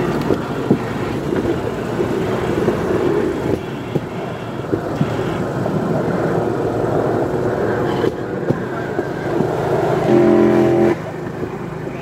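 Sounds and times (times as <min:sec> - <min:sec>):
rail trolley engine and wheels: 0:00.0 - 0:12.0.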